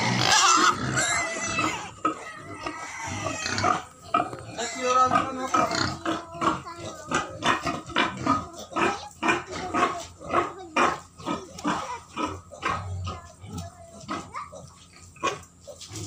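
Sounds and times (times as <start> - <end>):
pigs grunting and squealing: 0.0 - 16.0.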